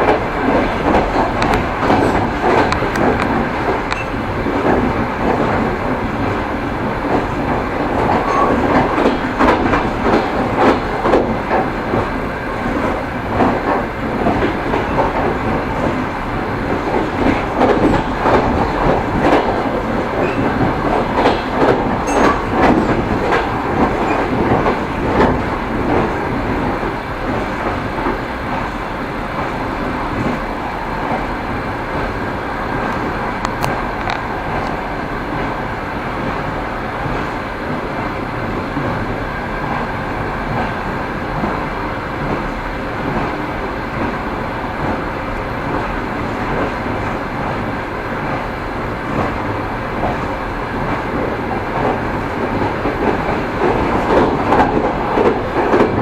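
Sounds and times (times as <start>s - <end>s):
train wheels clattering: 0.0s - 31.4s, 36.2s - 56.0s
moving train rumble: 0.0s - 56.0s.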